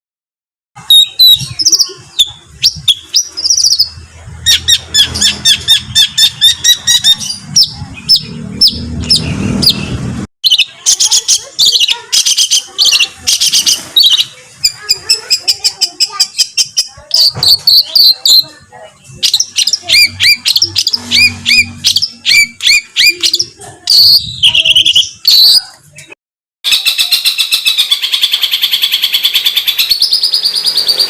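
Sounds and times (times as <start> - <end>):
songbird harsh rapid notes: 0.8 - 25.7.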